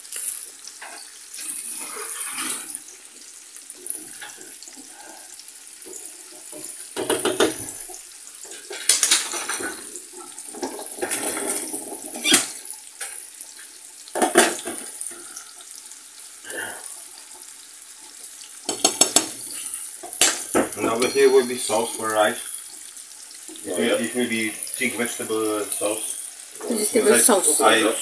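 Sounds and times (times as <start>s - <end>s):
pots and utensils clattering: 0.0s - 3.1s, 3.7s - 15.5s, 18.6s - 28.0s
onions sizzling in a pan: 0.0s - 28.0s.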